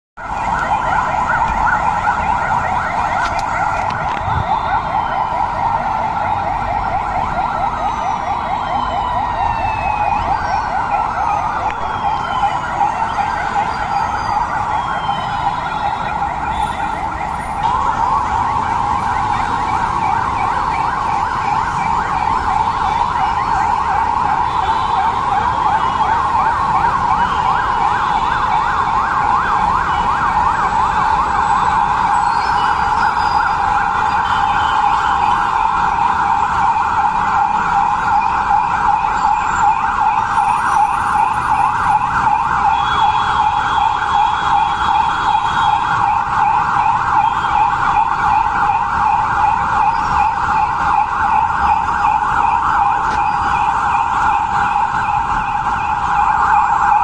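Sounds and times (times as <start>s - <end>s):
police sirens wailing: 0.2s - 57.0s.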